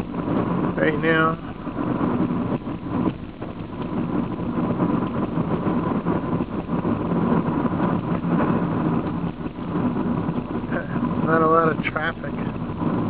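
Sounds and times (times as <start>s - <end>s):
car engine and tyre drone: 0.0s - 13.0s
faint steady whine: 0.0s - 13.0s.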